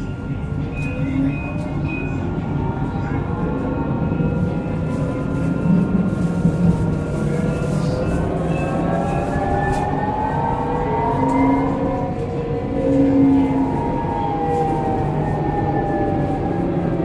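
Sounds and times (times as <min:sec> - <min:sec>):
tram rolling on track: 0:00.0 - 0:17.0.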